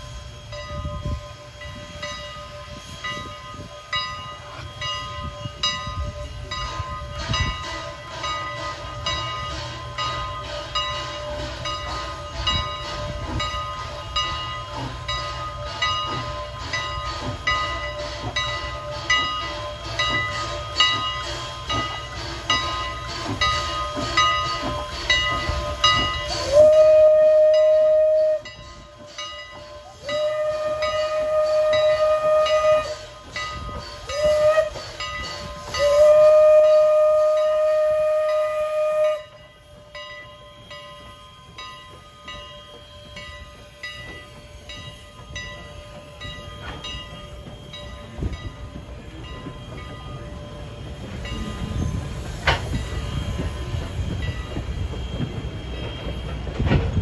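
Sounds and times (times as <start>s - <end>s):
shrill train whistle: 0.0s - 56.6s
steam locomotive chuffing: 0.0s - 57.0s.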